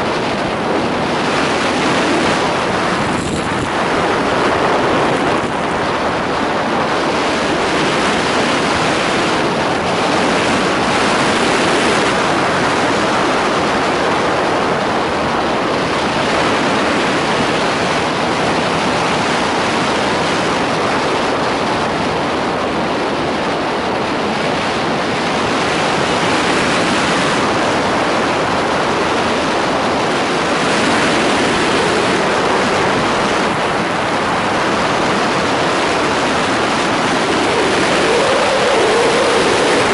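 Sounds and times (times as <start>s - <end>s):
wind rushing across microphone: 0.0s - 39.9s.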